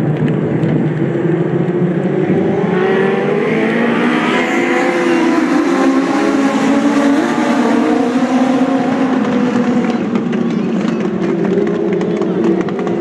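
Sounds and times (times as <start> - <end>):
race cars passing at speed: 0.2 - 13.0.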